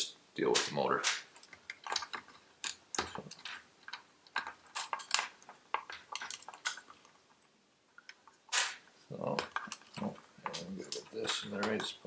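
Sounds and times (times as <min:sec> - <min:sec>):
clicks and knocks of plastic and metal: 0:00.5 - 0:07.2, 0:08.0 - 0:12.0.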